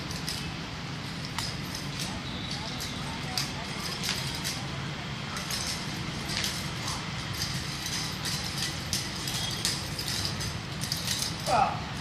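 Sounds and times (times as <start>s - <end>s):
nunchaku clicks and swishes: 0.0s - 12.0s.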